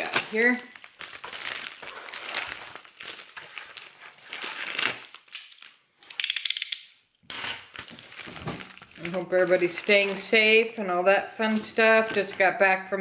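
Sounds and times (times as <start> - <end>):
plastic envelope crinkling: 0.0 - 12.6.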